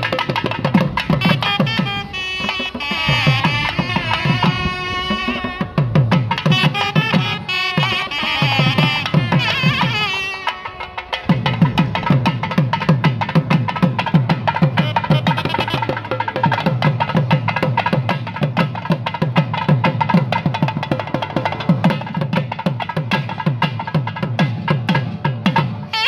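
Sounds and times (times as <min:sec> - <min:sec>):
fast drumming: 0:00.0 - 0:26.0.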